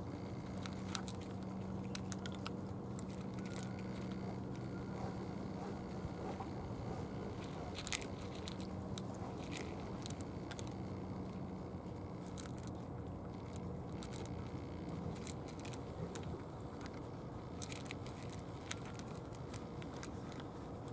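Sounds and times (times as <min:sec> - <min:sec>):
cats crunching dry food: 0:00.0 - 0:20.9.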